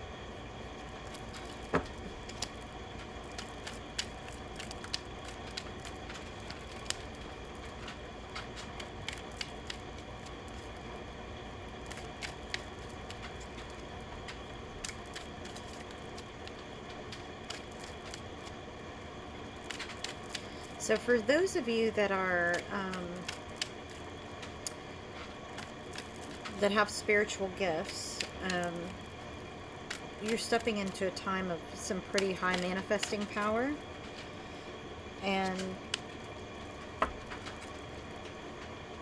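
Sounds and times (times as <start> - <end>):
steady background hum: 0.0 - 39.0
cards being shuffled: 0.6 - 18.6, 19.4 - 31.1, 32.0 - 34.5, 35.3 - 38.4.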